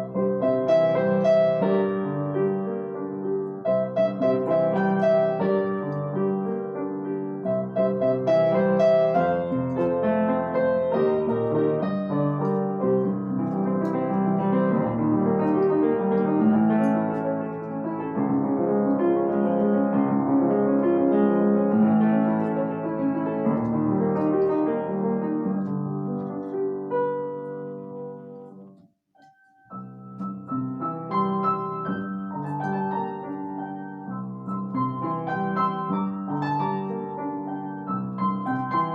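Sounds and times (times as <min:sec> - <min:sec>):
solo piano playing: 0:00.0 - 0:38.9.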